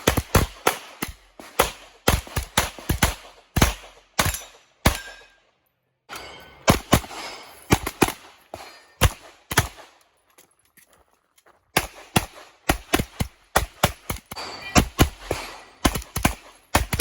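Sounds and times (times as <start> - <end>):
gunshots: 0.0 - 5.4, 6.1 - 10.0, 11.8 - 17.0.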